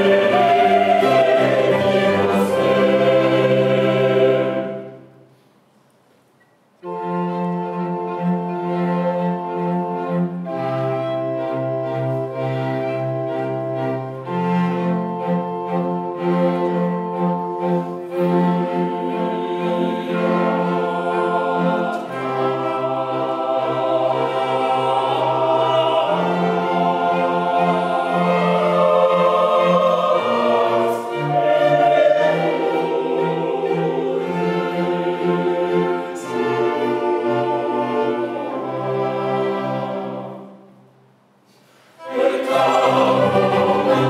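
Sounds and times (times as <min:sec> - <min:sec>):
choir singing: 0:00.0 - 0:05.2, 0:06.8 - 0:40.9, 0:41.9 - 0:44.0
string orchestra: 0:00.0 - 0:05.9, 0:06.8 - 0:44.0.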